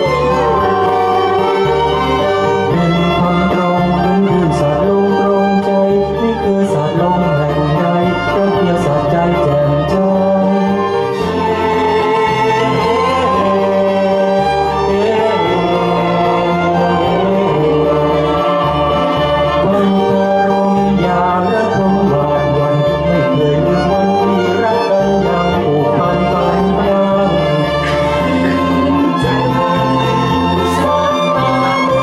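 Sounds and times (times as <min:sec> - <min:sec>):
backing music with pulsing bass: 0:00.0 - 0:32.0
man and woman singing duet: 0:00.0 - 0:32.0
violin: 0:00.0 - 0:32.0.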